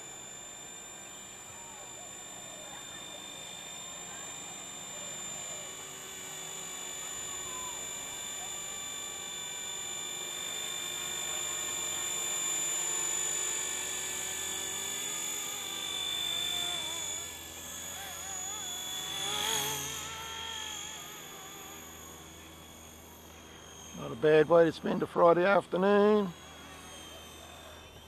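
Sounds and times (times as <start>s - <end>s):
rc helicopter high-pitched whine: 0.0s - 28.0s.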